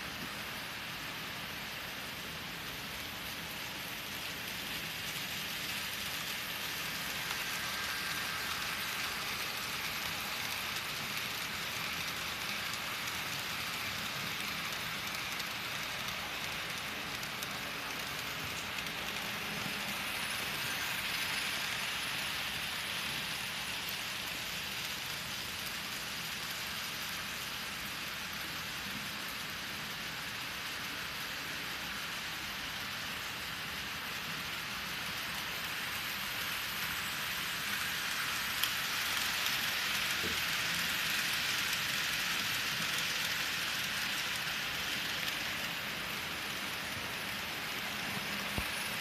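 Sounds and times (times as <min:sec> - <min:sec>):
model trains rolling on track: 0:00.0 - 0:49.0.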